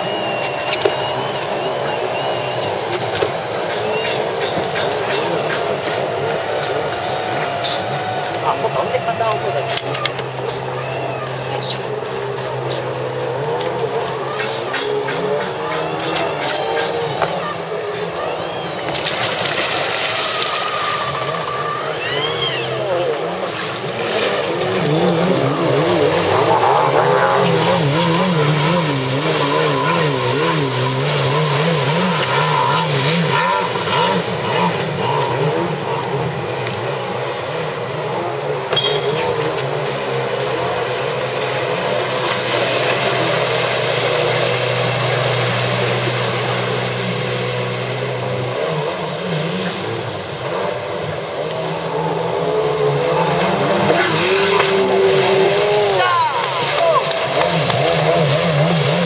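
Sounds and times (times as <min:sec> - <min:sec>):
jet ski engine revving: 0:00.0 - 0:59.0.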